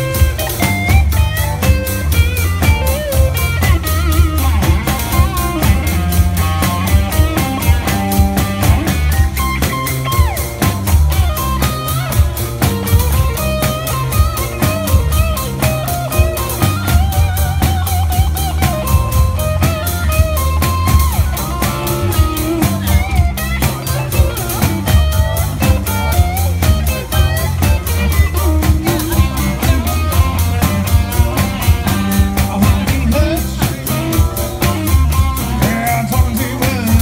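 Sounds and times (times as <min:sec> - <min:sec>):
drum kit beat: 0:00.0 - 0:37.0
electric guitar lead: 0:00.0 - 0:37.0.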